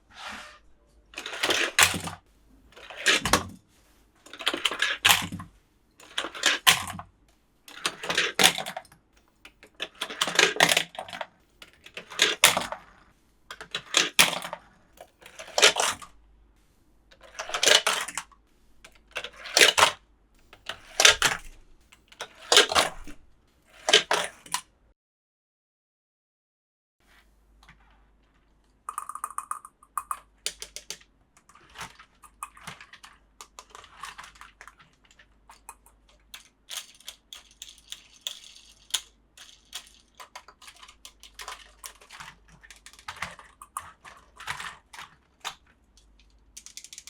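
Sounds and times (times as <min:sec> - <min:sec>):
plastic clicking and rattling: 0:01.1 - 0:03.6, 0:04.2 - 0:07.1, 0:07.7 - 0:16.2, 0:17.1 - 0:24.7, 0:28.7 - 0:47.0.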